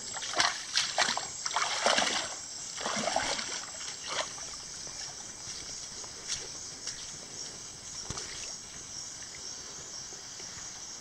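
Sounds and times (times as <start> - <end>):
feet splashing in shallow water: 0.0 - 9.5.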